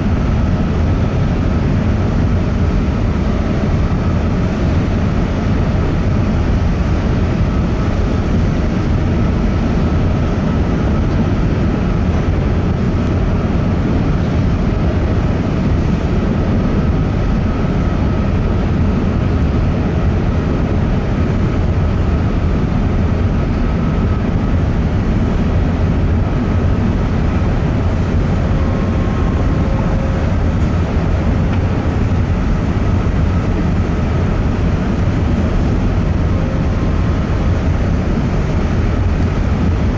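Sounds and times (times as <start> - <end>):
ferry engine rumble: 0.0 - 39.9.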